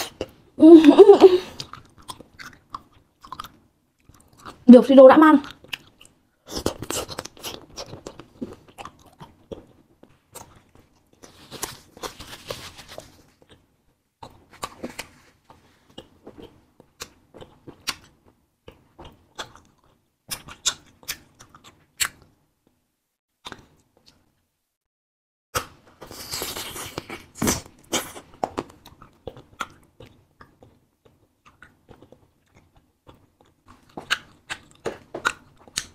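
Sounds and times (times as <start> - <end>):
wet chewing and biting: 1.5 - 4.6, 5.4 - 22.4, 23.4 - 24.2, 25.6 - 35.9.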